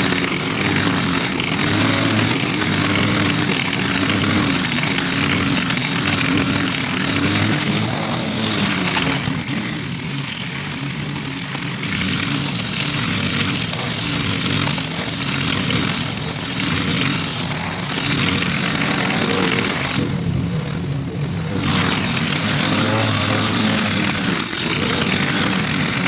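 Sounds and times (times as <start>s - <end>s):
lawn mower engine mowing grass: 0.0s - 26.0s.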